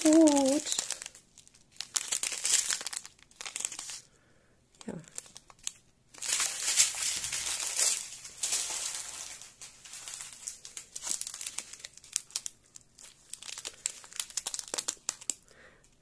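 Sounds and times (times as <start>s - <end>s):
plastic bags crinkling: 0.0s - 4.2s, 4.8s - 16.0s.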